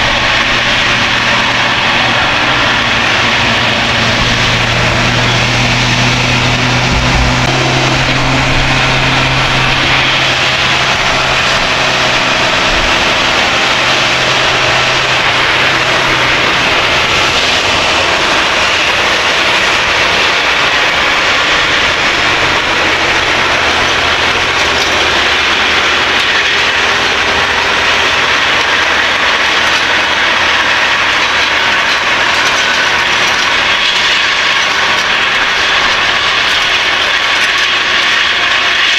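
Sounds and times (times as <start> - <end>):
track undercarriage clatter: 0.0 - 38.9
tractor engine drone: 0.0 - 38.9.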